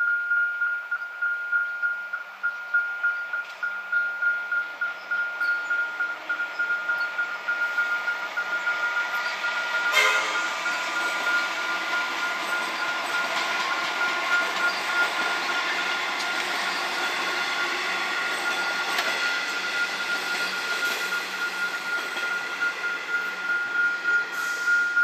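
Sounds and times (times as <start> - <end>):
high-pitched tone: 0.0 - 25.0
train wheels rushing on rail: 4.9 - 25.0.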